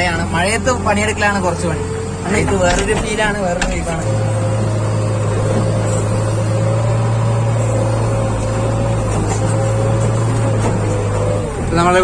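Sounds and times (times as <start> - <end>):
diesel engine running with whine: 0.0 - 12.0.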